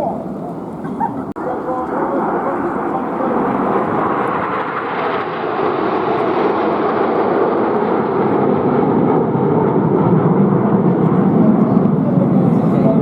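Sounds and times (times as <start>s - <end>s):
aircraft engine flying past: 0.0s - 13.0s.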